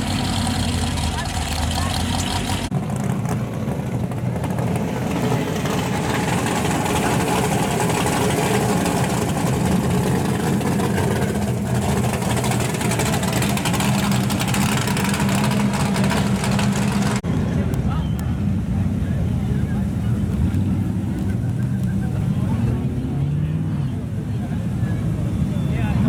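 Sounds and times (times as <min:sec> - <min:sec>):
muscle car engine passing: 0:00.0 - 0:26.0.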